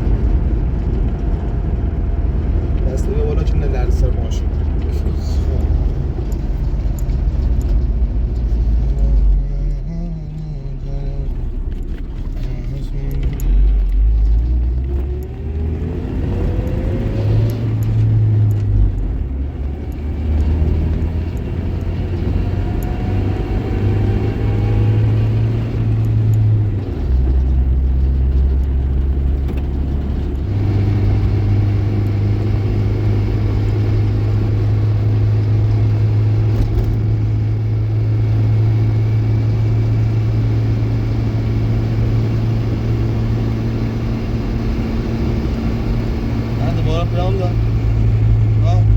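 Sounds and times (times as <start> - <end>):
car engine: 0.0 - 48.9
road noise: 0.0 - 48.9.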